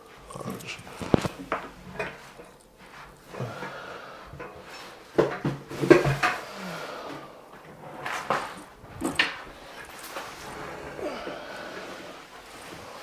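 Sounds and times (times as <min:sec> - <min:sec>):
hard parts clattering: 0:00.0 - 0:13.0
soft rustle: 0:00.0 - 0:13.0.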